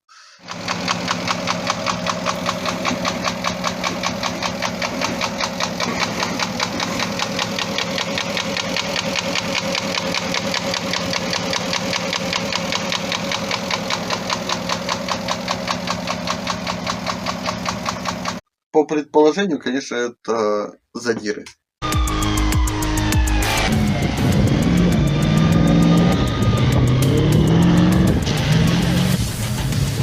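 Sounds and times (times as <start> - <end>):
car engine idling with knock: 0.5 - 18.4, 23.3 - 30.0.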